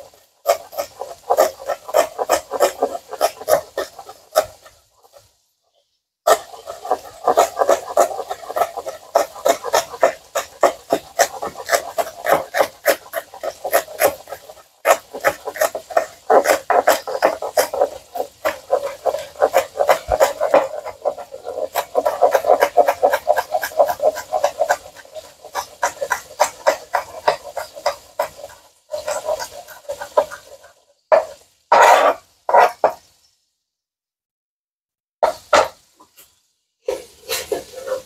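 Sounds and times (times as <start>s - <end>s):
knife chopping on cutting board: 0.0s - 4.7s, 6.3s - 30.5s, 31.1s - 33.0s.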